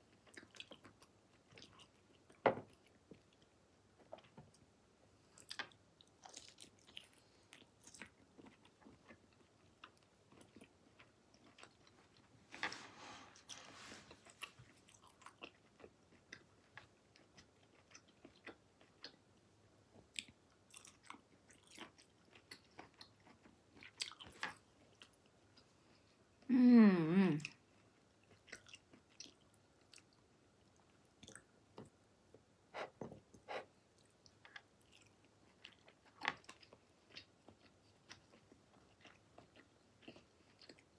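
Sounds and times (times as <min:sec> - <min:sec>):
wet chewing and mouth clicks: 0:00.0 - 0:04.6, 0:05.3 - 0:12.6, 0:13.4 - 0:26.0, 0:27.4 - 0:32.0, 0:32.8 - 0:40.9.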